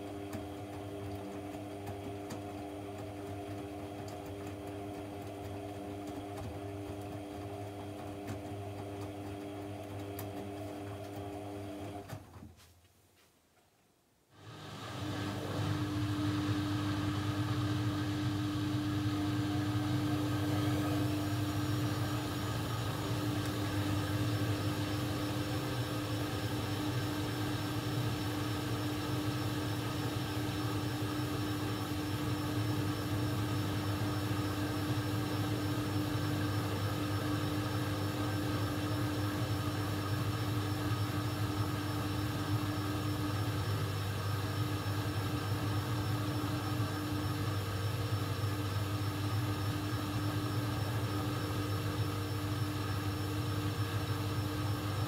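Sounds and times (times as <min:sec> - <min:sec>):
washing machine motor hum: 0:00.0 - 0:12.6, 0:14.3 - 0:55.0.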